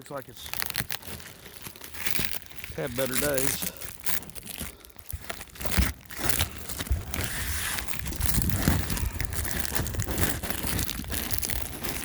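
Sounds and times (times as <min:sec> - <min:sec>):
cardboard packing crinkling: 0:00.0 - 0:12.0.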